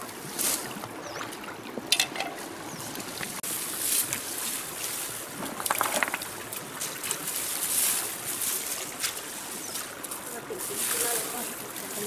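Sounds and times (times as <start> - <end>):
water sloshing and splashing: 0.0 - 12.0
water trickling: 0.0 - 12.0.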